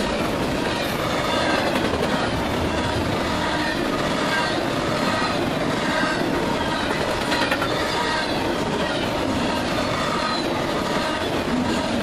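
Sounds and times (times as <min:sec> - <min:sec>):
train wheels rumbling on rail: 0:00.0 - 0:12.0
high wheel squeals: 0:00.8 - 0:12.0.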